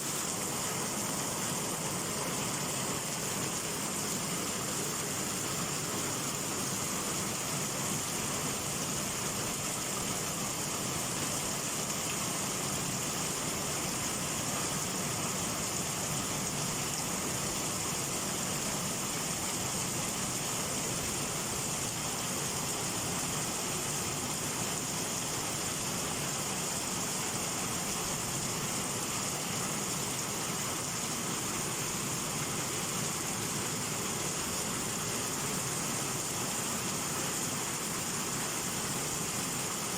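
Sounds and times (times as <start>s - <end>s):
heavy rain falling: 0.2s - 39.9s.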